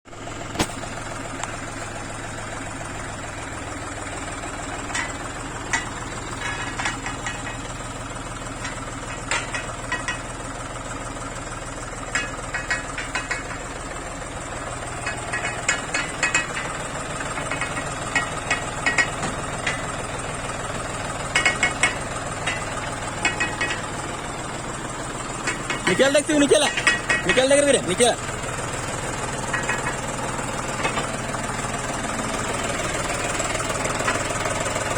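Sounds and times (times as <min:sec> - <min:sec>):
tractor diesel engine running: 0:00.1 - 0:34.9
sharp clicks and rattles: 0:00.4 - 0:34.9.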